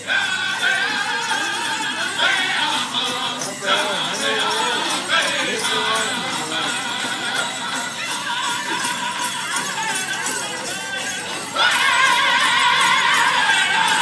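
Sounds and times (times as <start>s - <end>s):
drumming and group singing: 0.0s - 14.0s
sleigh bells jingling: 0.0s - 14.0s.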